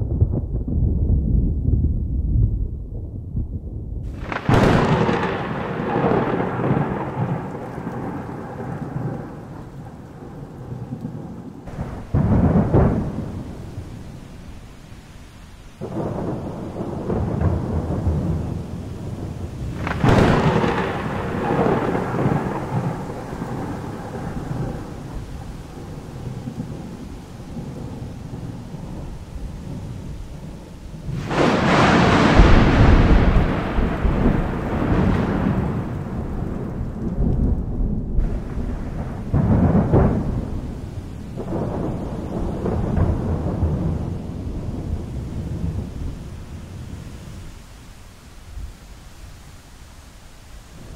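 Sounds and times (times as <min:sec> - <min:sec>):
sharp thunder crack: 0:00.0 - 0:09.5, 0:10.2 - 0:14.6, 0:15.8 - 0:47.1
rain: 0:00.0 - 0:50.9
thunder rumbling: 0:00.0 - 0:50.9.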